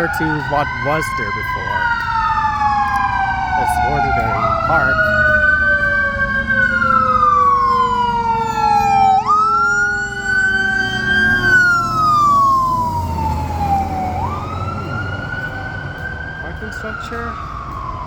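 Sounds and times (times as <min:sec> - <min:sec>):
low traffic rumble: 0:00.0 - 0:18.0
sinking siren tone: 0:00.0 - 0:18.0
siren wailing: 0:00.0 - 0:18.0.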